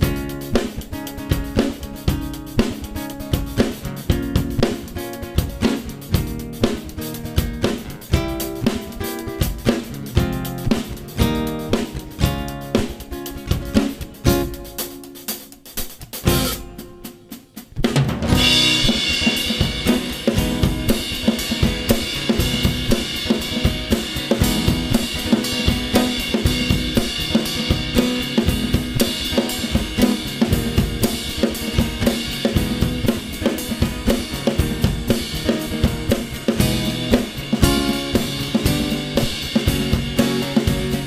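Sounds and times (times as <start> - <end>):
guitar chords: 0.0 - 15.6, 16.2 - 17.6, 18.2 - 41.0
drum kit playing rock beat: 0.0 - 41.0.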